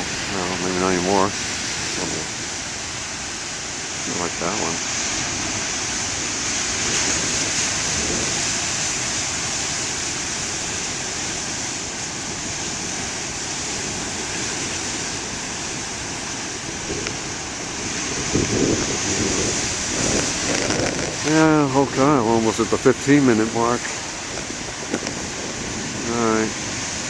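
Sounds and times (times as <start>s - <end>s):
ocean surf: 0.0s - 27.0s
wind on microphone: 0.0s - 27.0s.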